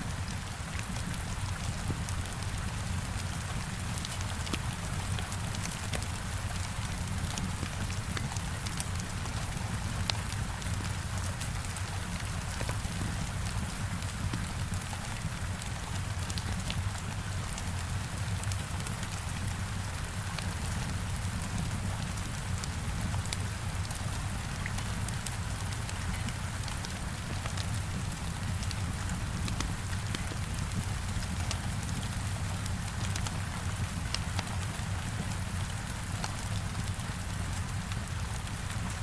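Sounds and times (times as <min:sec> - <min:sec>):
heavy rain on a window: 0:00.0 - 0:39.0
fireplace fire crackling: 0:00.1 - 0:39.0.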